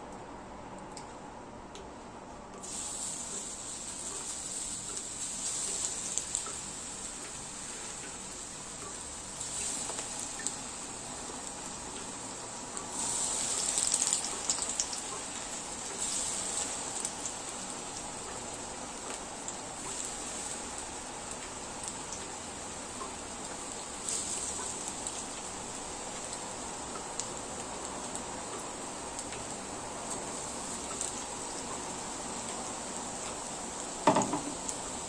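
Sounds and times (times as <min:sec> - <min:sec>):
hot oil sizzling in a frying pan: 0:02.6 - 0:35.0.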